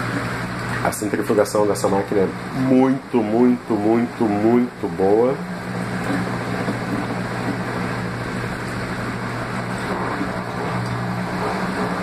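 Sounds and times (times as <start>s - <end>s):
washing machine drum spinning: 0.0s - 12.0s.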